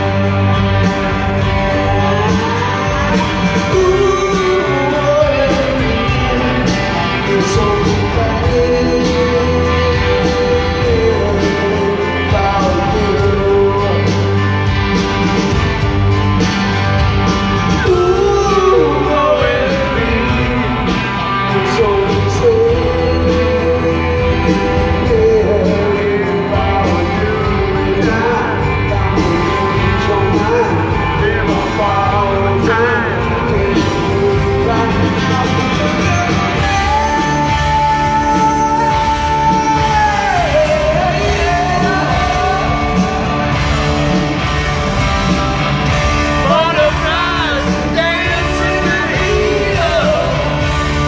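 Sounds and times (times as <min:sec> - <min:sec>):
man singing: 0:00.0 - 0:15.0, 0:17.6 - 0:43.9, 0:46.3 - 0:51.0
electric guitar: 0:00.0 - 0:51.0
live rock band: 0:00.0 - 0:51.0.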